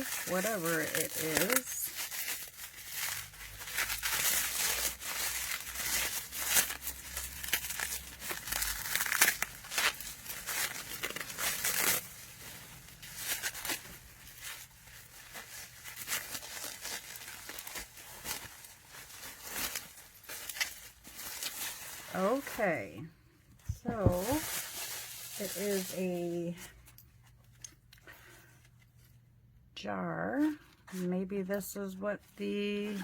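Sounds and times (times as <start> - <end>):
bubble wrap crinkling and snapping: 0.0 - 23.0, 23.6 - 29.2.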